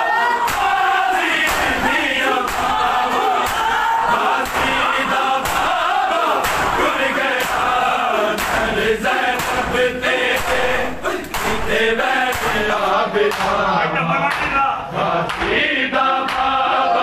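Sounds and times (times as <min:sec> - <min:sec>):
men chanting: 0:00.0 - 0:17.0
hands slapping chests: 0:00.4 - 0:13.6, 0:15.2 - 0:15.6, 0:16.2 - 0:16.6.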